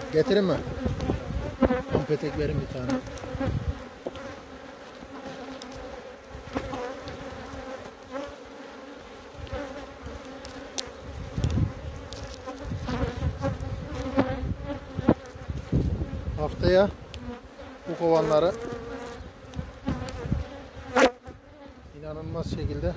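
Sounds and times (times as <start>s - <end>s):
bees buzzing: 0.0s - 22.2s.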